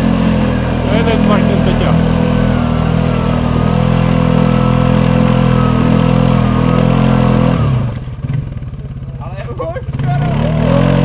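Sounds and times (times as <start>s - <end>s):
quad engine running with whine: 0.0s - 11.0s
wheels churning in mud: 0.0s - 11.0s.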